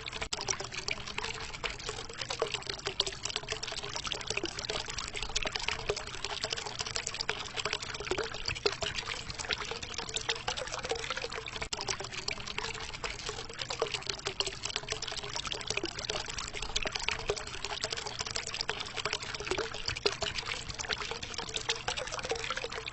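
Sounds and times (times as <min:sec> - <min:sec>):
water fountain splashing into pool: 0:00.0 - 0:22.9.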